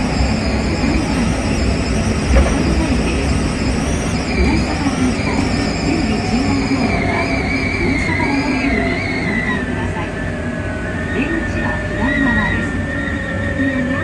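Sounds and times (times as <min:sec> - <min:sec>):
electric train mechanical hum: 0:00.0 - 0:14.0.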